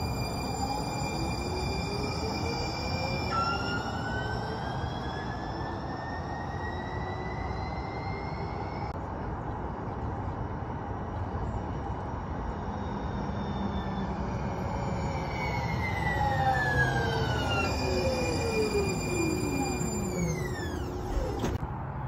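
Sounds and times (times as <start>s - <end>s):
train whine gliding down in pitch: 0.0s - 9.0s, 11.5s - 21.6s
light rail train rumble: 0.0s - 22.0s.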